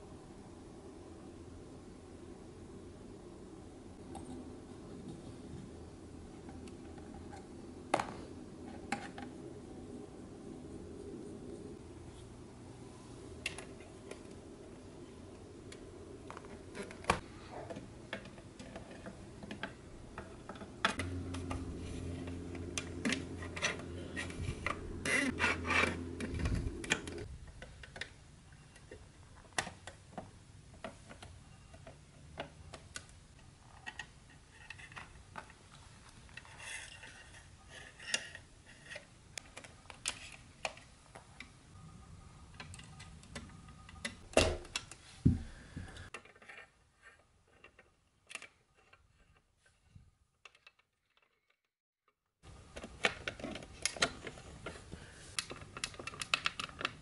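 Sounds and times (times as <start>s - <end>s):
low steady hum: 0.0s - 51.3s.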